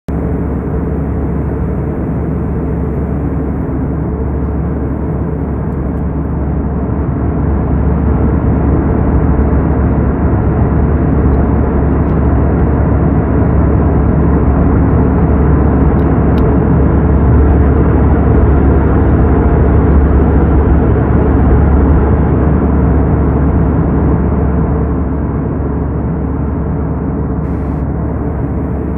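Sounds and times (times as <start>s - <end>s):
airliner cabin noise: 0.1s - 28.9s.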